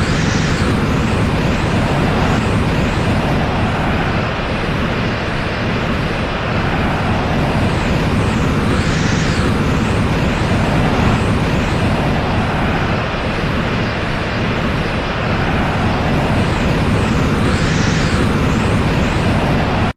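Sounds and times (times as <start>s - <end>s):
rumbling energy roar: 0.0s - 19.9s.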